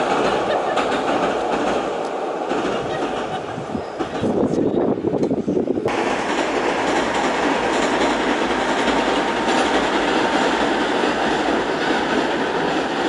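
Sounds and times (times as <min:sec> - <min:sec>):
electric train running over bridge: 0:00.0 - 0:13.0.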